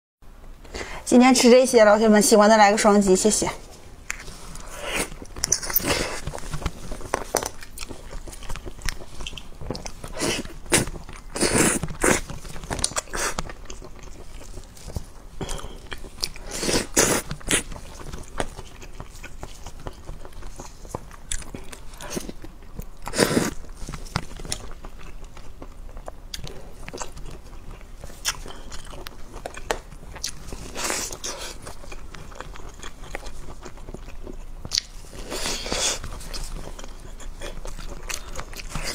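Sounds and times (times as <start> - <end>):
person chewing wetly: 4.0 - 38.9.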